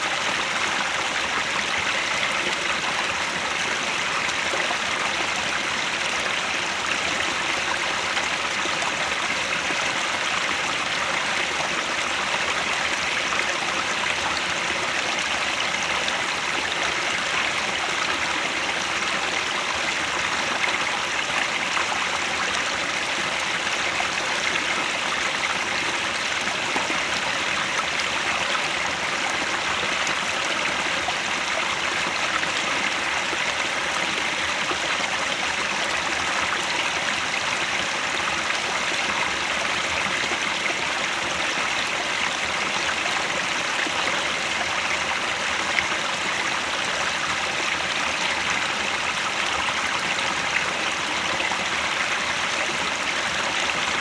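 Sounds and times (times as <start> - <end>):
stream rushing water: 0.0 - 54.0.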